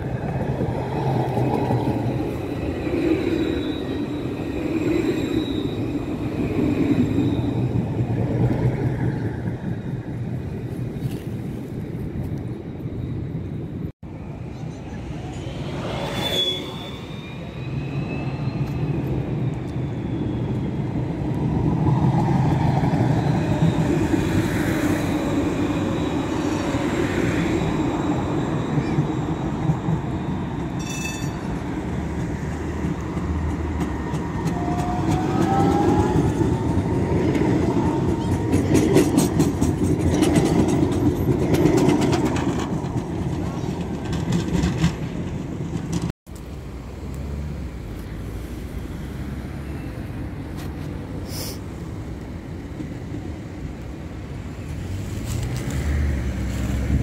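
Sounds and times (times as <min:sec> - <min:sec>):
tram wheels rumbling on rails: 0:00.0 - 0:57.0.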